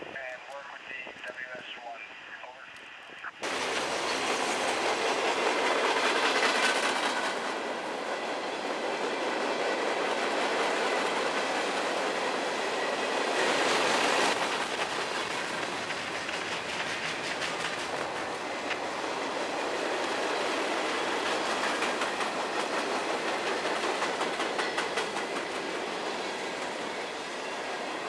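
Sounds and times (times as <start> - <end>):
steel wheels rumbling on rails: 3.4 - 28.0.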